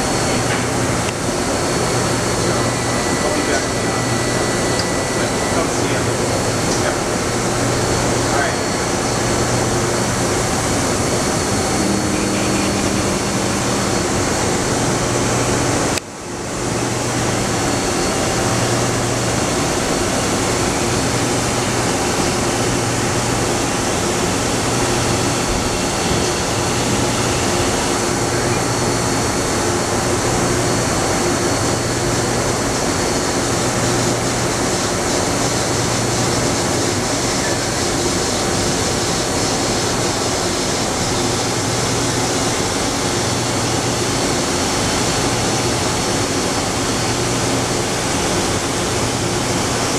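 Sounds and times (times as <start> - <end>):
low hum cycling: 0.0 - 49.9
machine noise: 0.0 - 49.9.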